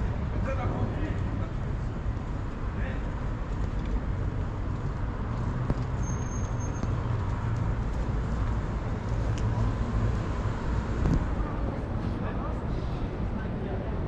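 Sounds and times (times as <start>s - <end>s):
vehicle engine humming: 0.0s - 13.3s
street traffic noise: 0.0s - 14.0s.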